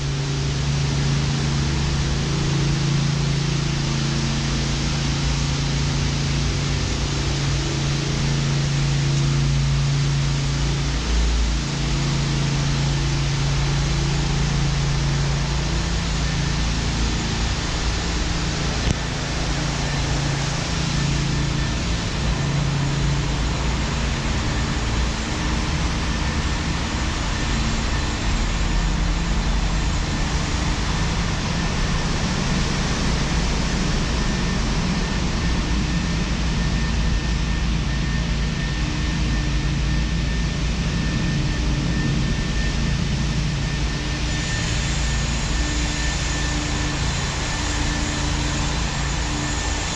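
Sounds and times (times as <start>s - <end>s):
constant rushing noise: 0.0s - 49.9s
low hum: 0.0s - 49.9s
road traffic rumble in tunnel: 0.0s - 49.9s.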